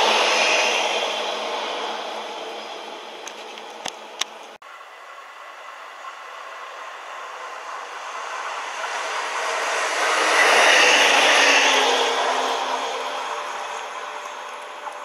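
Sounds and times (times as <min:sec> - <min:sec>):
train wheels rushing on rails: 0:00.0 - 0:04.5, 0:05.4 - 0:15.0.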